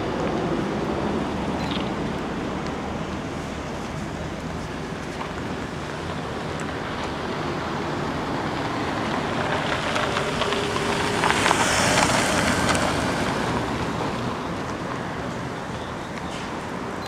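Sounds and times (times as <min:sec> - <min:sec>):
motor vehicle passing: 0:00.0 - 0:15.6
steady traffic noise: 0:00.0 - 0:17.0.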